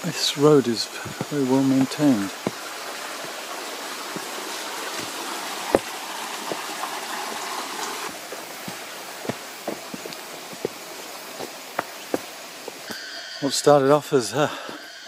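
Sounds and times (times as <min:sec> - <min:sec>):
stream running over stones: 0:00.0 - 0:12.9
footsteps on trail: 0:00.3 - 0:13.0.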